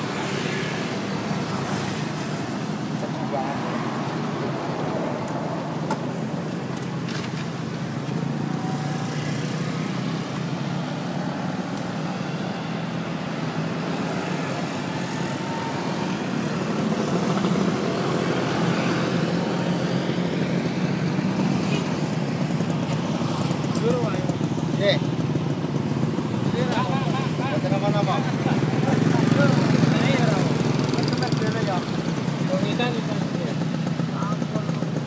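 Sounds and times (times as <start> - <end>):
road traffic engine rumble: 0.0 - 35.0.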